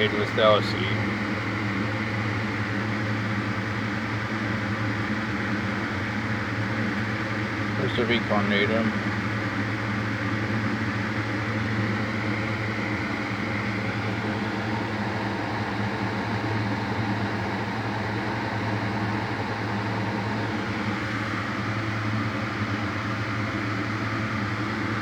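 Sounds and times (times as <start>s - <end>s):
low machine hum with hiss: 0.0s - 25.0s.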